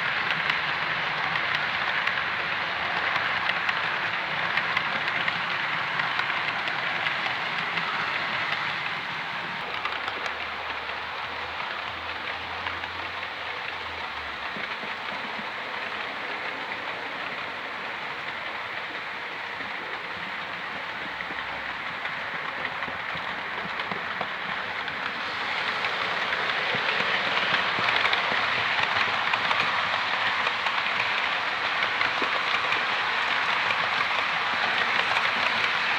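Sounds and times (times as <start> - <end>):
model train rattling on track: 0.0 - 35.9.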